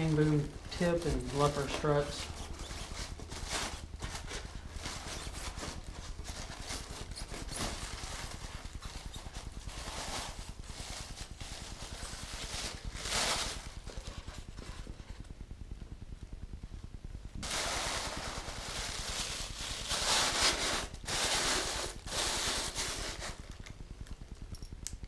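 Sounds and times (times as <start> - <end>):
packaging rustling and scraping: 0.0 - 15.2, 17.4 - 23.7.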